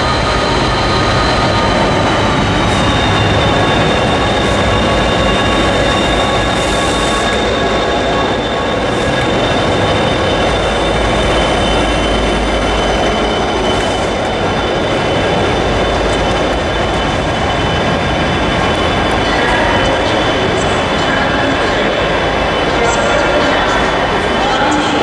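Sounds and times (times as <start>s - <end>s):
diesel locomotives passing: 0.0s - 25.0s.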